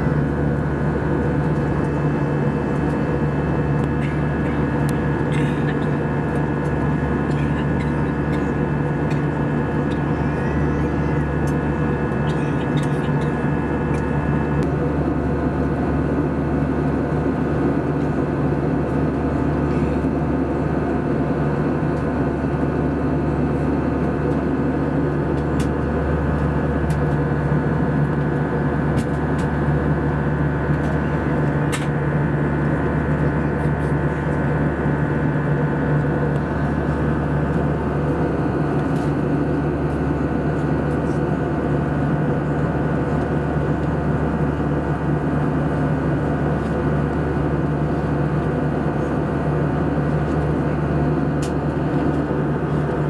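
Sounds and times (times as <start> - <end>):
jet engines humming: 0.0 - 53.0.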